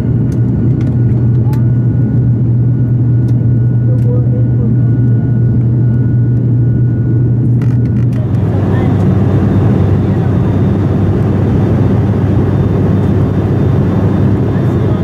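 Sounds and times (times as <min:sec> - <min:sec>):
turboprop engine drone in cabin: 0:00.0 - 0:15.0.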